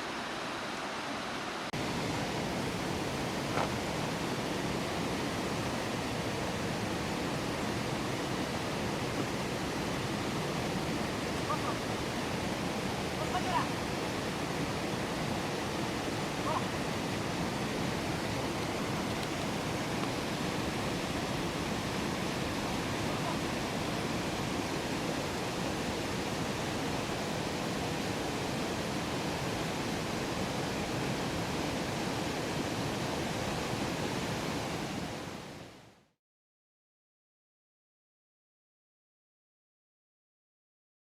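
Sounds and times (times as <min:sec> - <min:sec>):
flowing water rushing: 0:00.0 - 0:35.9.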